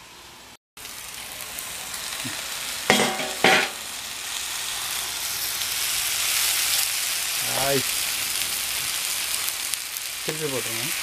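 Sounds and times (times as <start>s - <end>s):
meat sizzling on a griddle: 0.0s - 11.0s.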